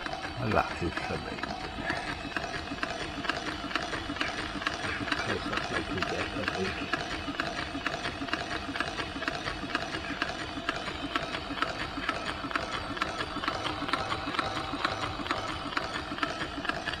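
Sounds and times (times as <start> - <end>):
steam engine rapid clicking: 0.0 - 17.0.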